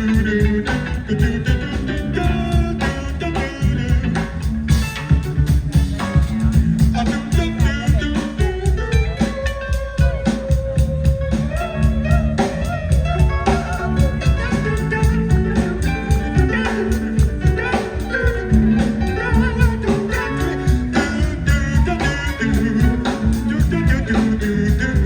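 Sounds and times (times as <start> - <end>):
bass line: 0.0 - 25.0
busy drum kit: 0.0 - 25.0
guitar melody with bent notes: 0.0 - 25.0.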